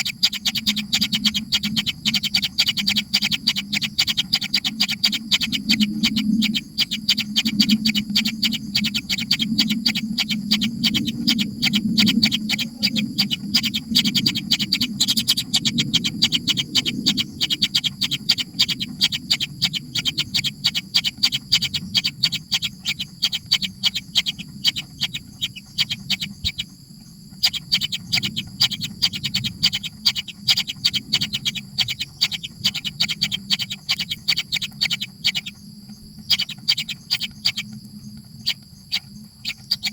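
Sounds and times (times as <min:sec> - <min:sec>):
nestling birds begging calls: 0:00.0 - 0:39.9.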